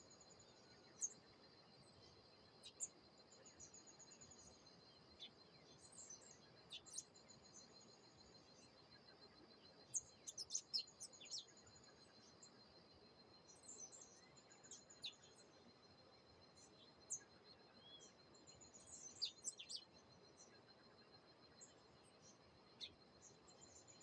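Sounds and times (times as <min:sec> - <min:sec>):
songbirds chirping faintly: 0:00.0 - 0:24.0.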